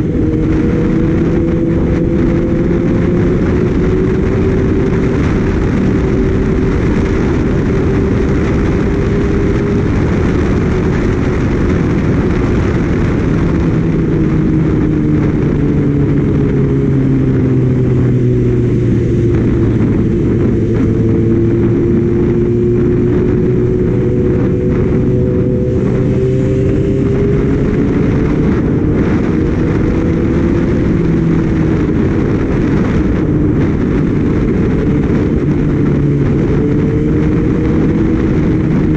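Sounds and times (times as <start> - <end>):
motorcycle engine at speed: 0.0 - 38.9
wind noise rushing: 0.0 - 38.9.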